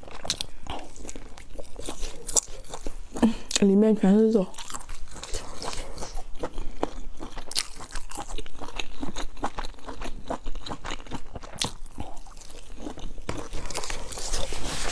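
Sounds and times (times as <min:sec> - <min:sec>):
person chewing: 0:00.0 - 0:03.7, 0:04.5 - 0:14.9.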